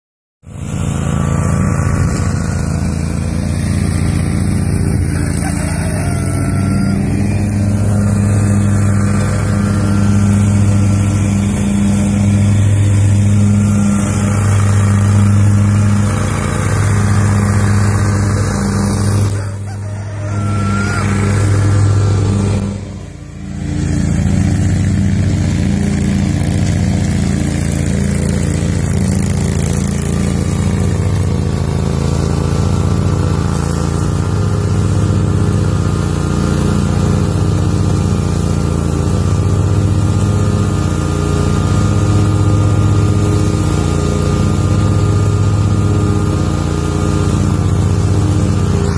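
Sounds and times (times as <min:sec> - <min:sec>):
engine humming: 0:00.4 - 0:48.9.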